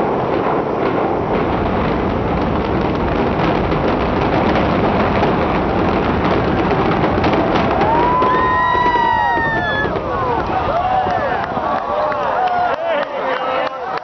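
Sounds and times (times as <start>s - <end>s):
building collapsing roar: 0.0s - 12.8s
sharp cracks: 0.0s - 13.4s.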